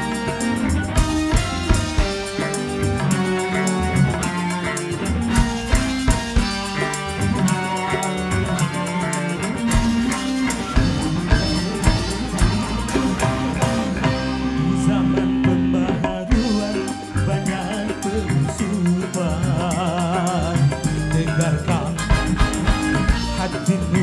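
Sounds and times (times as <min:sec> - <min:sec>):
band playing instrumental: 0:00.0 - 0:24.0
drum beats: 0:00.0 - 0:24.0
electric guitar: 0:00.0 - 0:24.0.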